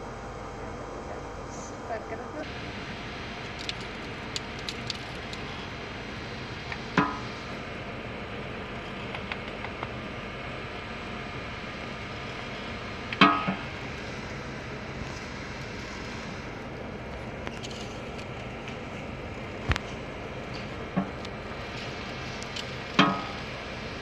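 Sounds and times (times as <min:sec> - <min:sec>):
roll mill running: 0:00.0 - 0:24.0.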